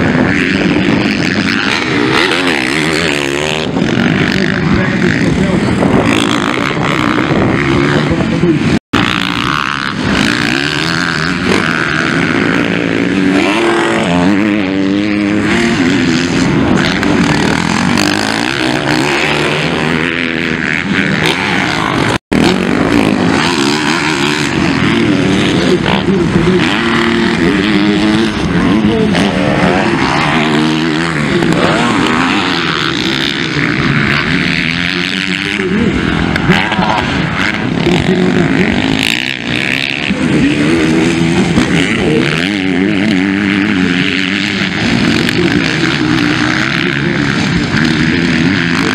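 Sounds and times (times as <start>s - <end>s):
motorbike engines revving: 0.0s - 48.9s.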